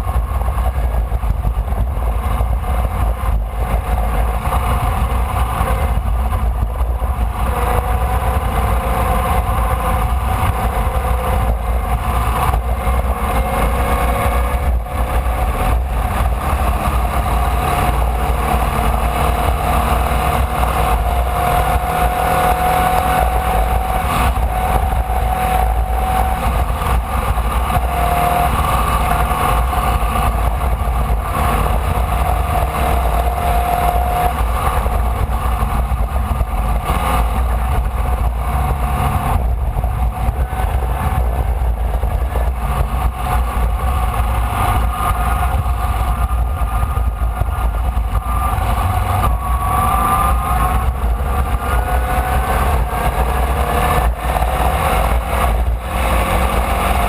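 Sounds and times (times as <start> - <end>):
race car engine running hard: 0.0 - 57.0
wind buffeting microphone: 0.0 - 57.0.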